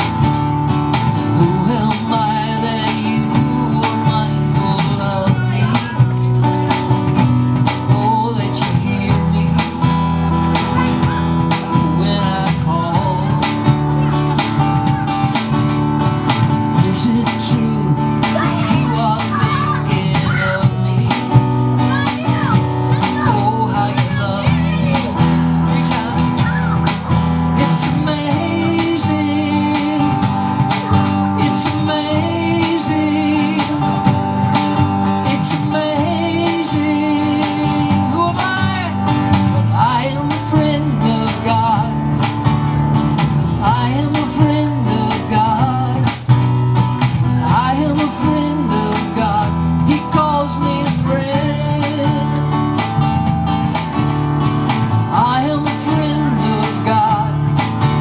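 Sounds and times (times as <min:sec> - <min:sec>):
acoustic guitar: 0:00.0 - 0:58.0
bass guitar: 0:00.0 - 0:58.0
man singing: 0:01.1 - 0:15.6, 0:16.3 - 0:42.3, 0:43.5 - 0:46.4, 0:47.2 - 0:53.0, 0:55.0 - 0:58.0.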